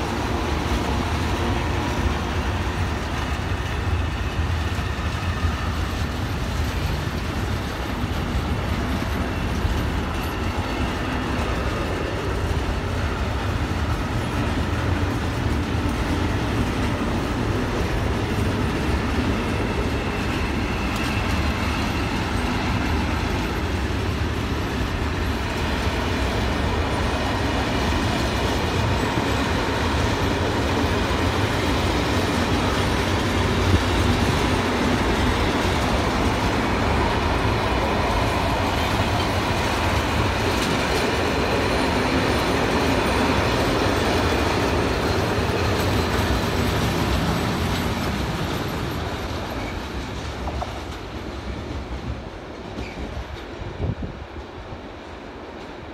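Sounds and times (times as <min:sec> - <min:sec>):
clickety-clack of rail joints: 0:00.0 - 0:55.9
train wheels rumbling over rails: 0:00.0 - 0:55.9.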